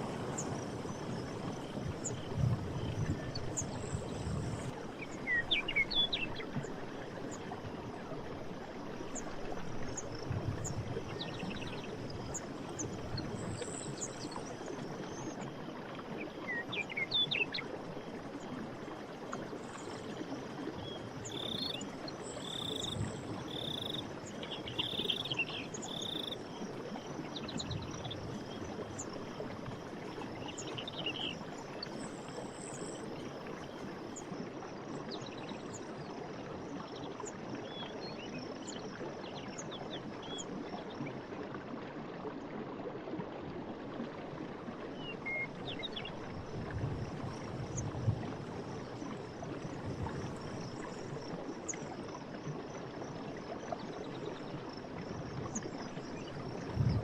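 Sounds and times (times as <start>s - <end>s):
stream running water: 0.0s - 57.0s.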